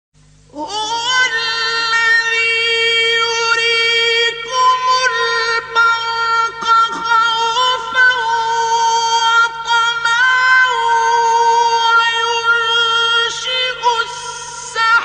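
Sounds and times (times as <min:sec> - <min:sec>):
man chanting in high register: 0:00.5 - 0:15.0.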